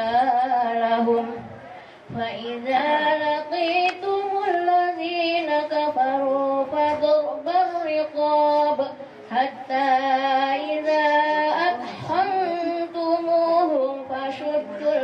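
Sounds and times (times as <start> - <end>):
woman chanting into a microphone: 0.0 - 15.0.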